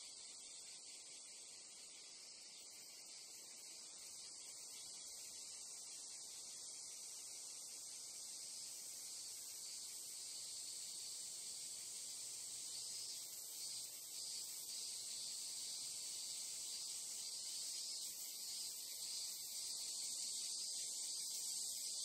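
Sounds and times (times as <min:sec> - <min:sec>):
high insect pulsing: 0:00.0 - 0:22.0
insect drone: 0:00.0 - 0:22.0.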